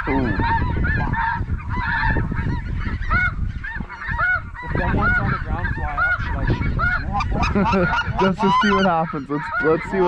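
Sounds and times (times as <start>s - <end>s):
geese honking: 0.0s - 10.0s
wind rumbling on microphone: 0.0s - 10.0s.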